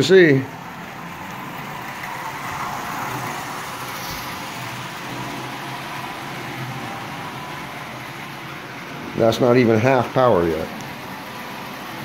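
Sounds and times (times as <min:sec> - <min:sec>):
wheels rumbling on tin rails: 0:00.0 - 0:12.0
toy train motor hum: 0:00.5 - 0:12.0.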